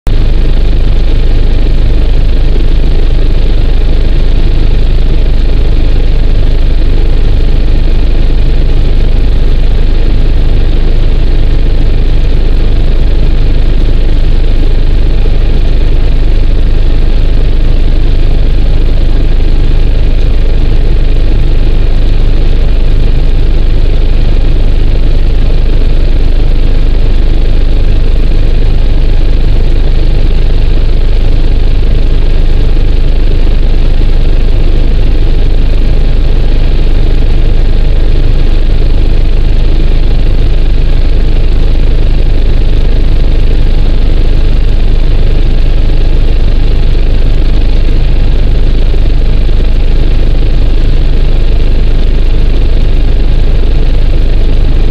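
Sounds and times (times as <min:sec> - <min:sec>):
faint high whine: 0:00.1 - 0:53.4, 0:54.1 - 0:54.9
helicopter cabin drone: 0:00.1 - 0:54.9.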